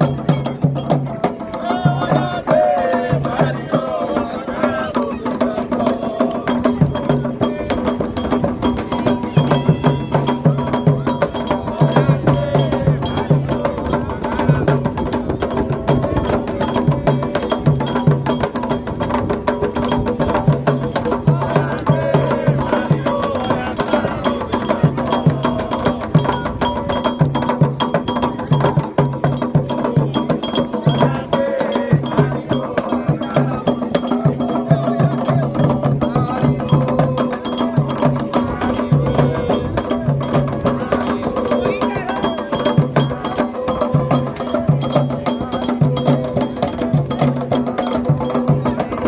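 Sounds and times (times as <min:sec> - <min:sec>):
hand drums beating: 0:00.0 - 0:49.0
voices singing: 0:00.0 - 0:49.0.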